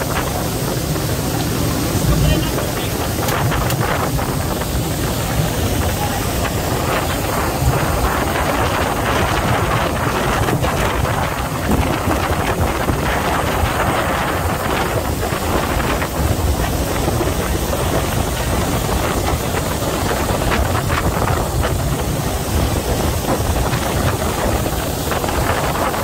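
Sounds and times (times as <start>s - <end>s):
low engine drone: 0.0s - 26.0s
wake rushing along hull: 0.0s - 26.0s
wind buffeting the microphone: 0.0s - 26.0s.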